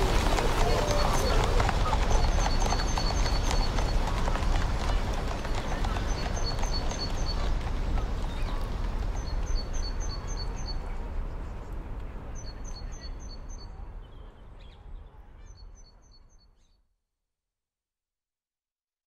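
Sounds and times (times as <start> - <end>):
low rumbling background noise: 0.0 - 16.6.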